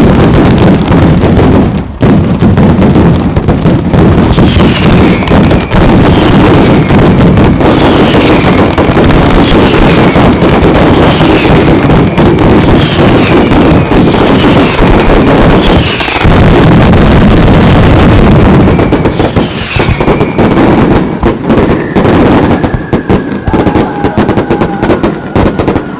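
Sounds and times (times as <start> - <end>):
firework battery rapid bangs: 0.0 - 25.9.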